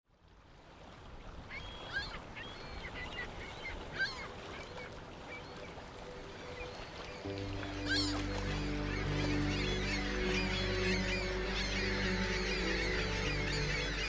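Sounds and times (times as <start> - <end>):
gulls calling: 1.5 - 14.0.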